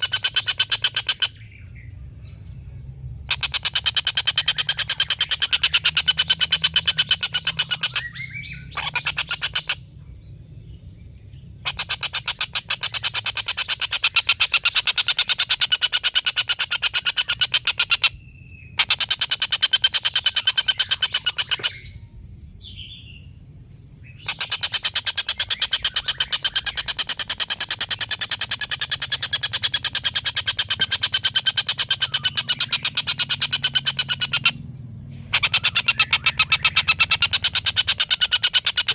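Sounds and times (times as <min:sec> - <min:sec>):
kingfisher chattering call: 0:00.0 - 0:01.4, 0:03.3 - 0:09.8, 0:11.6 - 0:18.2, 0:18.8 - 0:22.0, 0:24.2 - 0:38.9.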